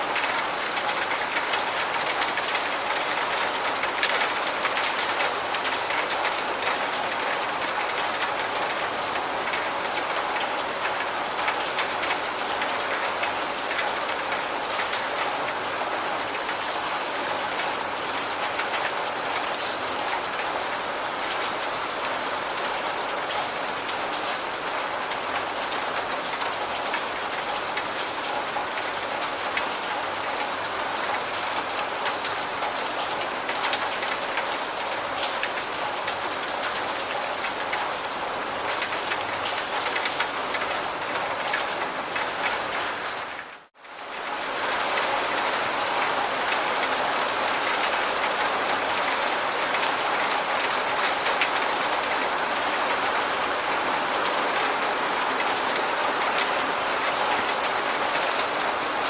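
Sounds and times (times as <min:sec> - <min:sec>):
steady rain with drop hits: 0:00.0 - 0:59.0.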